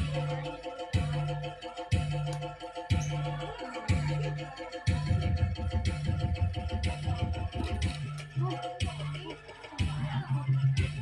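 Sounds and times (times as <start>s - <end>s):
music with fast heavy drumbeat: 0.0s - 11.0s.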